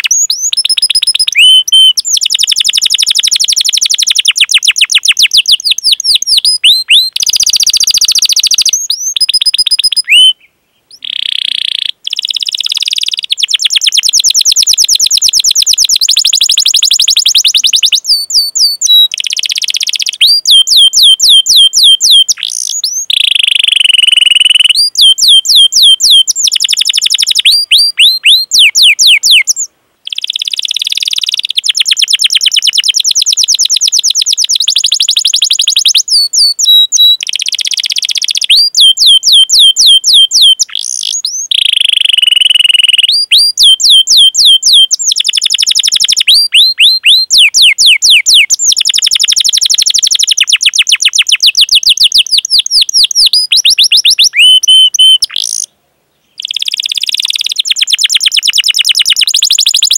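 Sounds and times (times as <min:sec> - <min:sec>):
canary singing: 0:00.0 - 0:55.7, 0:56.3 - 0:59.9.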